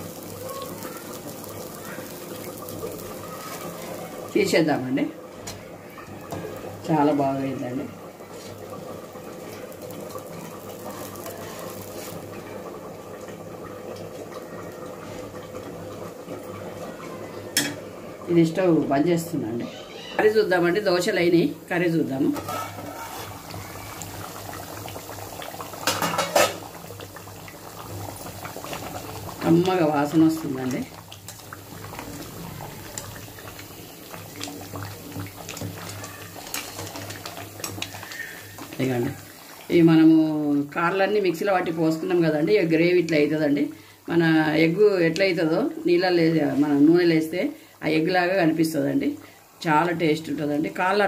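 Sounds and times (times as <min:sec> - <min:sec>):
thick gravy bubbling: 0:00.0 - 0:49.7
food sizzling on a stove: 0:00.0 - 0:51.0.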